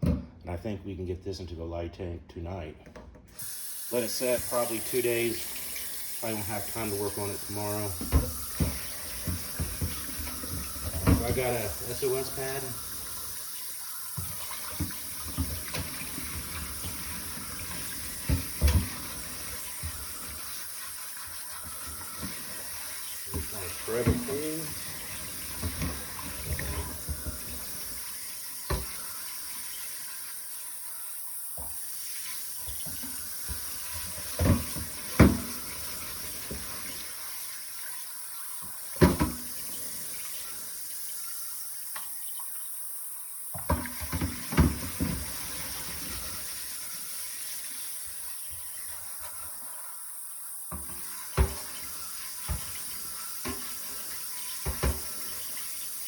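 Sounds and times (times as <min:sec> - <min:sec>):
tap water running: 0:03.3 - 0:56.0.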